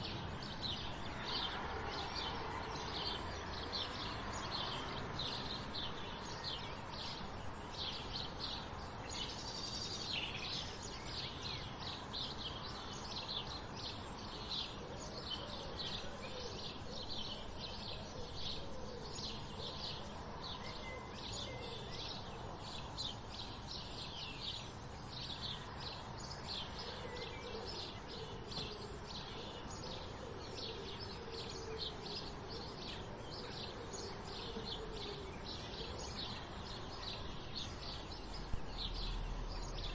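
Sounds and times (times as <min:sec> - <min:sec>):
sparrows chirping: 0:00.0 - 0:39.9
steady background hiss: 0:00.0 - 0:39.9.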